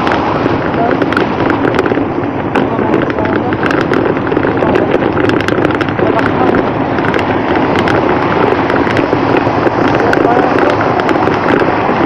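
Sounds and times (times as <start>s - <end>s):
bicycle rattling over rough asphalt: 0.0s - 12.0s
wind buffeting microphone: 0.0s - 12.0s.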